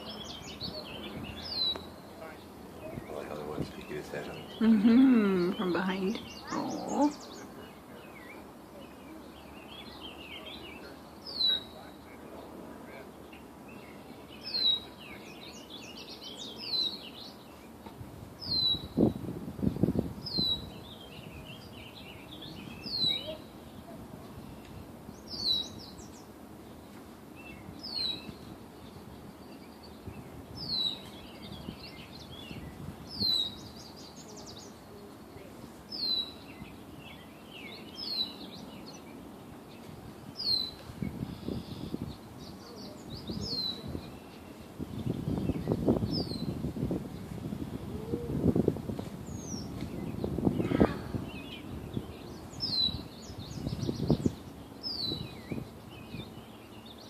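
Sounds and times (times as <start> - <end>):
quiet bird chirping: 0.0 - 48.6, 49.2 - 57.0.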